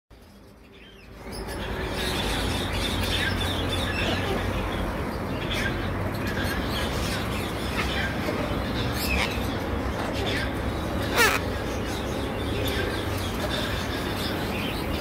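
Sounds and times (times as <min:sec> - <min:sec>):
caged birds chirping and squawking: 0:00.2 - 0:15.0.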